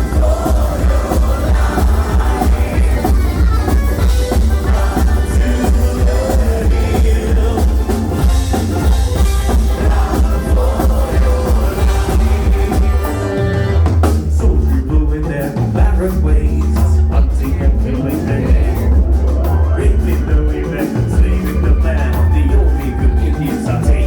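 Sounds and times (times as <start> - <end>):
drums steady beat: 0.0 - 24.0
live band playing loud music: 0.0 - 24.0.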